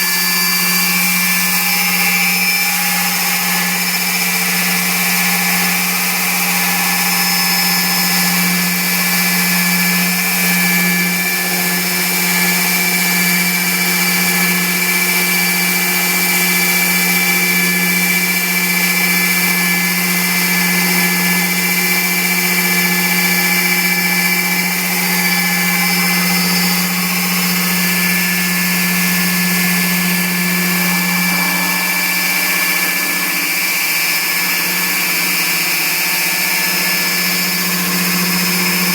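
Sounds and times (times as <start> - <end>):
core drill humming with whine: 0.0 - 38.9.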